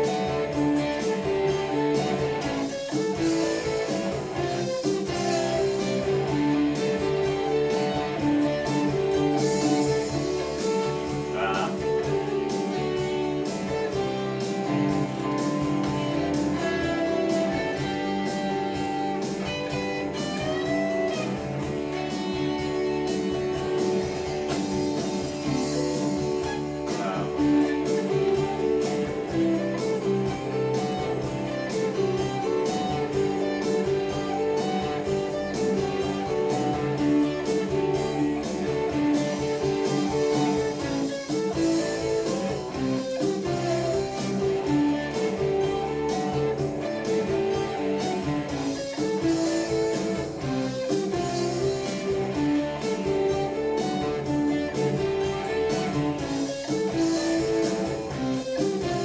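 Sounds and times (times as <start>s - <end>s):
guitar playing: 0.0s - 59.0s
music with steady beat: 0.0s - 59.0s.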